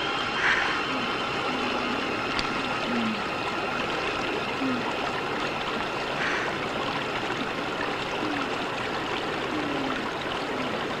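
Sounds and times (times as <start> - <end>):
whirlpool water churning: 0.0 - 11.0.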